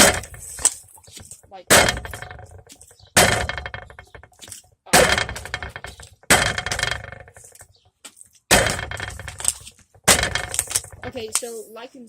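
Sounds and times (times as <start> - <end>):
bottle clattering and rolling: 0.0 - 11.6.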